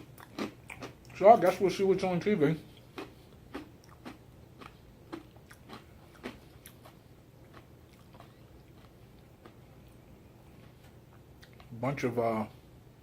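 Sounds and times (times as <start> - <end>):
man chewing crunchy food: 0.0 - 1.6, 2.6 - 11.7.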